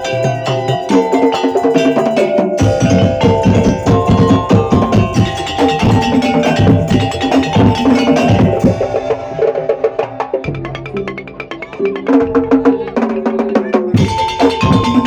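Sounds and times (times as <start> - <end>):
ringing tuned metal notes: 0.0 - 15.0
wooden knocking percussion: 0.0 - 15.0.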